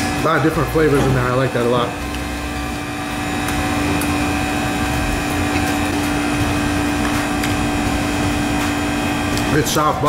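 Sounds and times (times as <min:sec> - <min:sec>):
ventilation hum: 0:00.0 - 0:10.0.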